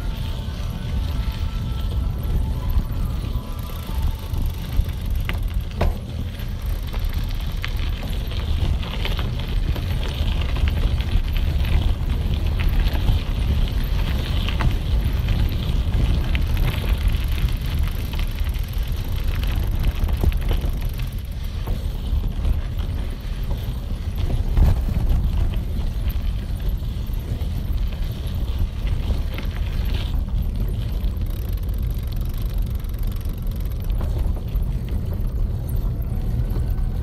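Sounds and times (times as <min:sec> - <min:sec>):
bicycle tyres rumbling on gravel: 0:00.0 - 0:37.0.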